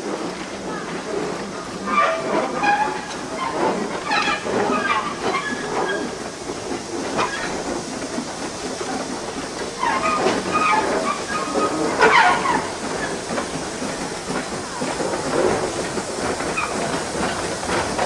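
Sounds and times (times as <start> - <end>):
steam hissing: 0.0 - 18.0
steam locomotive running: 0.0 - 18.0.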